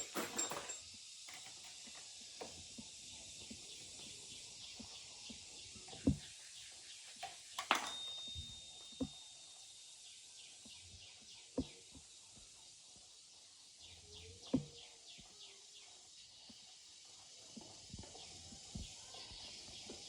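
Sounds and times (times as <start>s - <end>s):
birds chirping: 2.8s - 12.8s, 13.6s - 20.0s.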